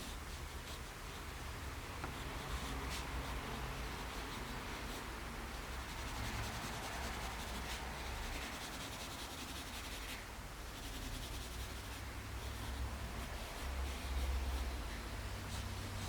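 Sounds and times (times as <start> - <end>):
pencil shading on paper: 0.0 - 16.0.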